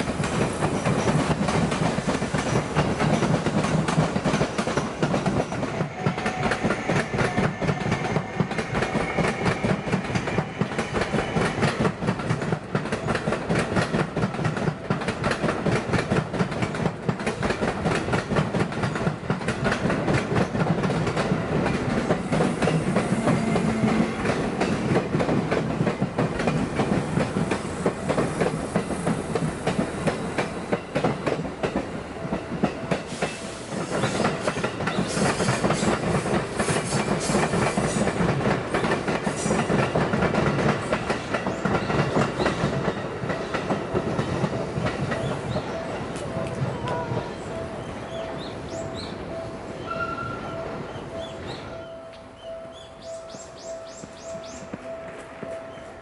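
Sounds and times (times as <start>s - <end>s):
train wheels clattering over rail joints: 0.0s - 46.7s.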